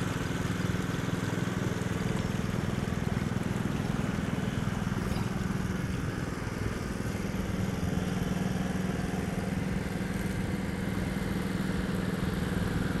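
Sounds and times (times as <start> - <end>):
small boat engine humming: 0.0 - 13.0.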